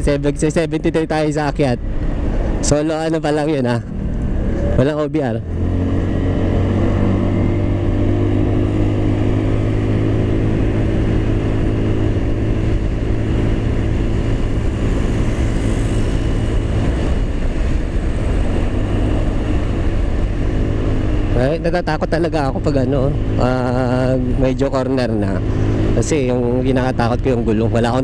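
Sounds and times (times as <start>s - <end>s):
wind noise on microphone: 0.0s - 22.6s
scooter engine droning: 3.8s - 28.0s.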